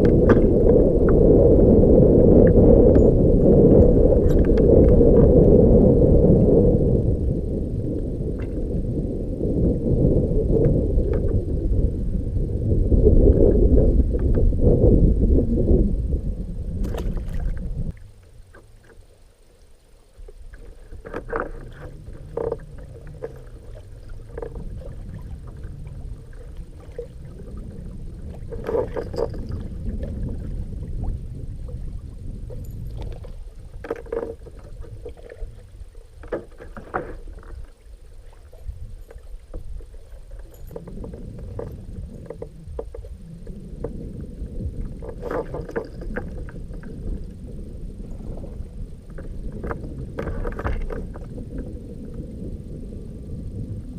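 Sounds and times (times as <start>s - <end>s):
boat engine rumble: 0.0s - 53.9s.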